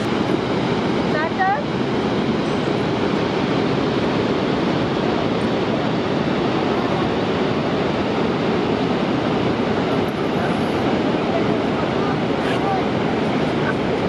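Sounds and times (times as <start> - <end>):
large waterfall rushing: 0.0 - 14.0.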